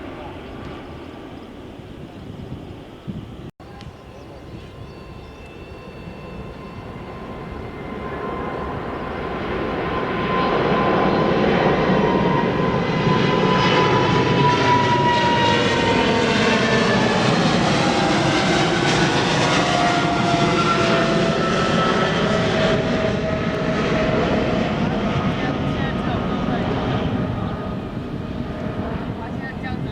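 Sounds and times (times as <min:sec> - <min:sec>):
airliner passing close by: 0:00.0 - 0:29.9
jet engine whine: 0:00.0 - 0:29.9.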